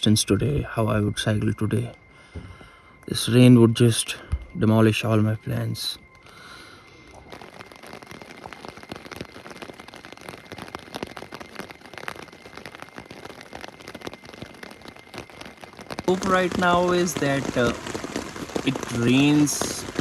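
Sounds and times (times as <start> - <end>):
rain drops pattering: 0.1 - 20.0.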